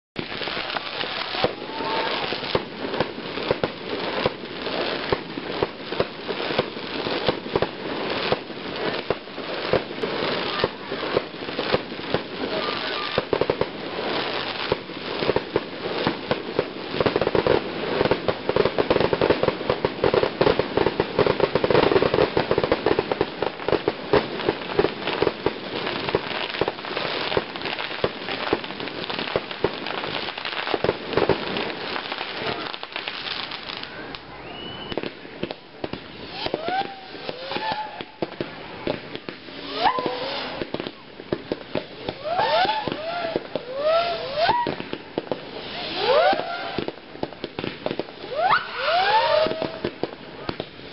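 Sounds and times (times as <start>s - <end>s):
fireworks bangs and crackling: 0.2s - 50.9s.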